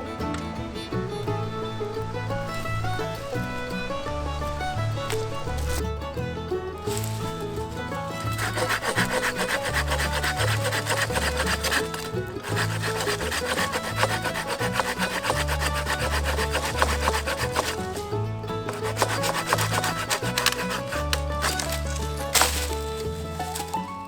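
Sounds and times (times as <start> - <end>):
background music with bass line: 0.0 - 24.0
hand saw cutting wood: 2.3 - 5.9, 6.9 - 24.0.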